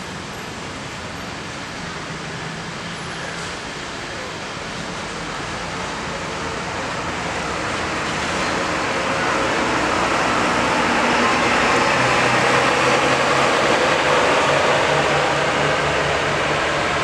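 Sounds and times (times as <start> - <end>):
bus driving past: 0.0 - 17.0.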